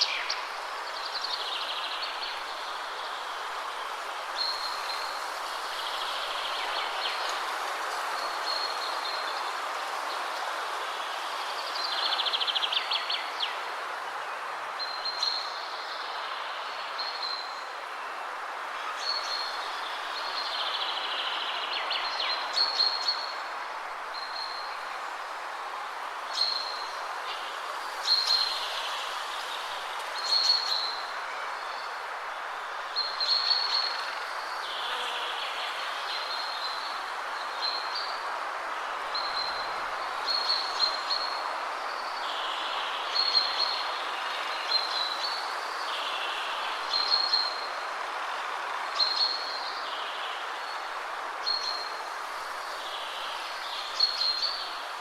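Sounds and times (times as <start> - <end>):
wind rushing through trees: 0.0 - 55.0.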